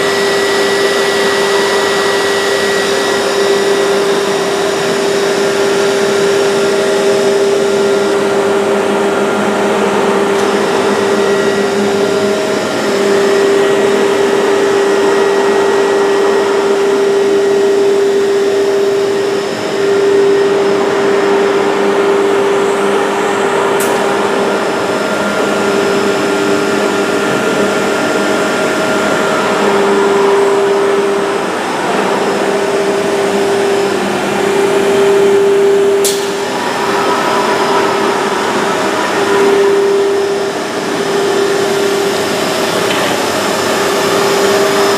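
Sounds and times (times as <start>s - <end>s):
woodworking machine motor whine: 0.0s - 44.9s.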